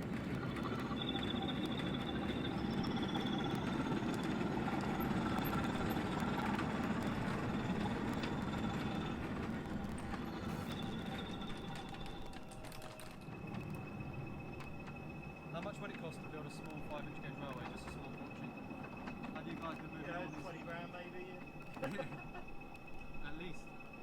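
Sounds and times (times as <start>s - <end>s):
electric model locomotive running: 0.0s - 24.0s.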